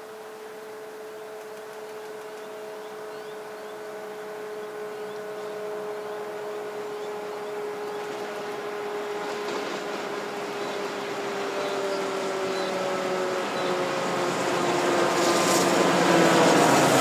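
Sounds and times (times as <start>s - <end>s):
locomotive engine drone with whine: 0.0s - 17.0s
train wheel and rail noise: 0.0s - 17.0s.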